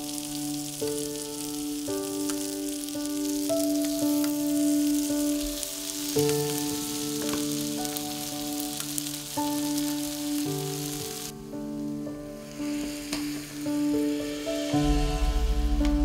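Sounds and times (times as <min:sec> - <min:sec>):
batter sizzling on waffle iron: 0:00.0 - 0:11.3, 0:12.4 - 0:15.3.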